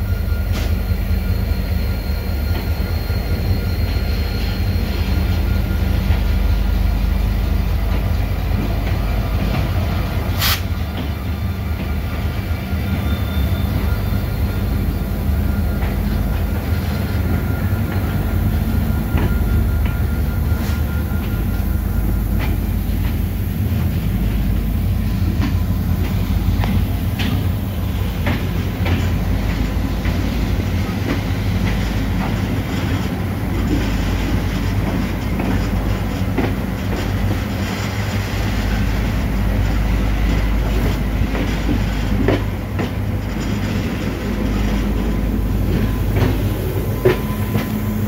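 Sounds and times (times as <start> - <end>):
locomotive engine hum: 0.0 - 48.0.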